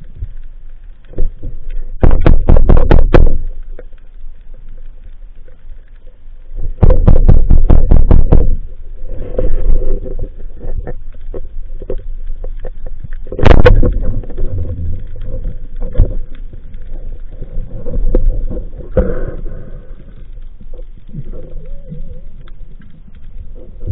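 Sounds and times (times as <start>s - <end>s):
underwater rumble: 0.0s - 23.9s.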